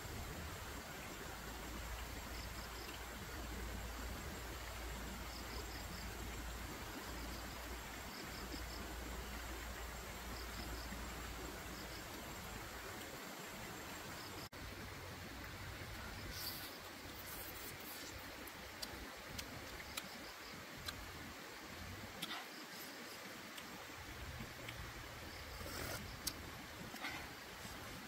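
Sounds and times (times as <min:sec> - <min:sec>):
insect chirps: 0:00.0 - 0:14.6, 0:15.4 - 0:28.0
background hiss: 0:00.0 - 0:28.0.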